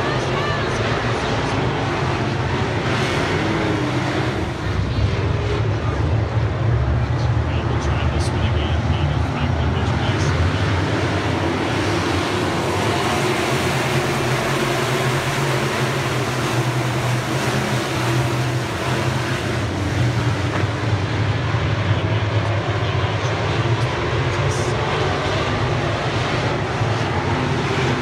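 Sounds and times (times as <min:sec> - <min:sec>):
race car engines roaring: 0:00.0 - 0:28.0.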